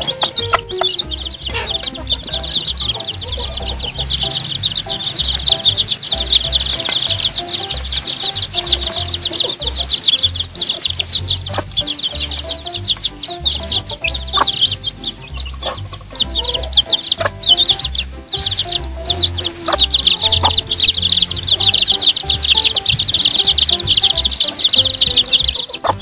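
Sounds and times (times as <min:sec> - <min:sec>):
background music with low beat: 0:00.0 - 0:26.0
chicks peeping: 0:00.0 - 0:26.0.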